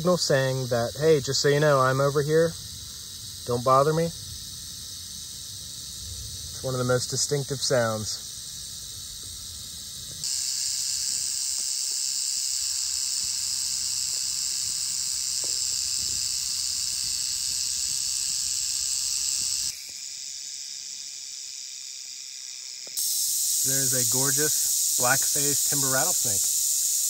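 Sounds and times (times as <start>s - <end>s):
rattlesnake rattling: 0.0s - 27.0s.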